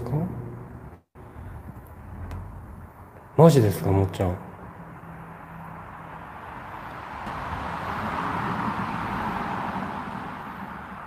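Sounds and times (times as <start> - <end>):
distant vehicle passing: 0.4 - 11.0.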